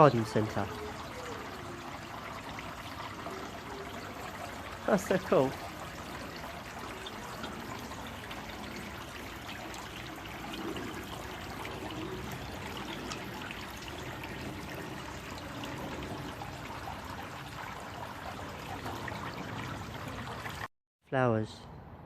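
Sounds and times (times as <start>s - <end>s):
water trickling and splashing: 0.0s - 20.7s.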